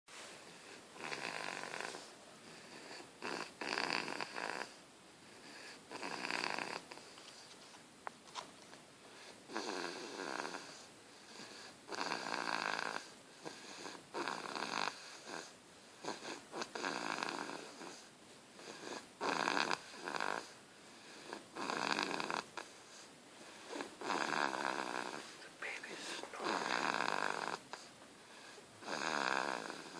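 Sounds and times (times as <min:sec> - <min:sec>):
baby snoring: 0:00.5 - 0:04.8, 0:05.4 - 0:07.2, 0:09.2 - 0:29.9.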